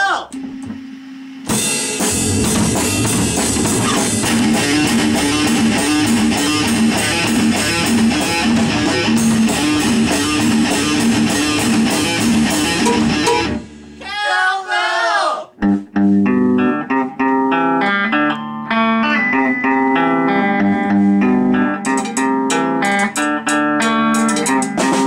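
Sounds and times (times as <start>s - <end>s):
rock band playing: 0.4s - 14.2s, 15.6s - 25.0s.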